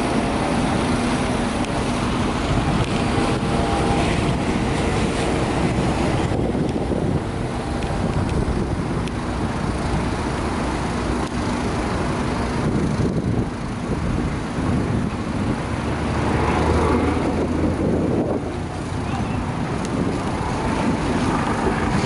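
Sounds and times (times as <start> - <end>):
low engine rumble: 0.0 - 22.0
rushing wind noise: 0.0 - 22.0.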